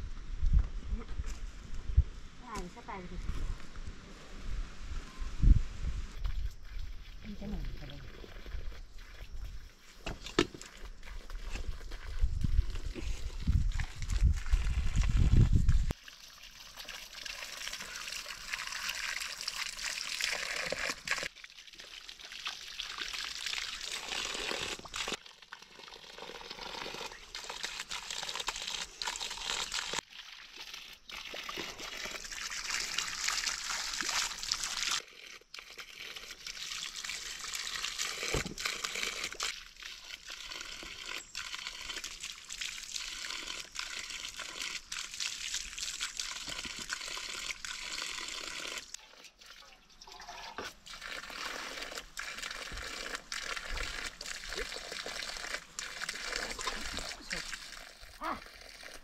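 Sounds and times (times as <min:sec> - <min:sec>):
water pouring and splashing: 0:05.8 - 0:59.0.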